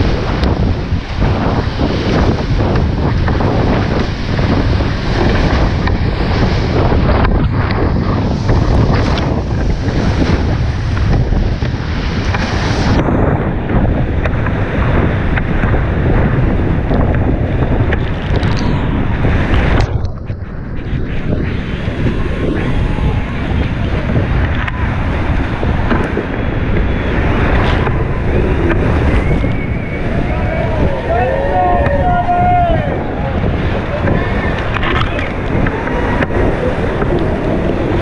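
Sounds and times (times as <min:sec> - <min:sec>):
whitewater rushing and splashing: 0:00.0 - 0:38.0.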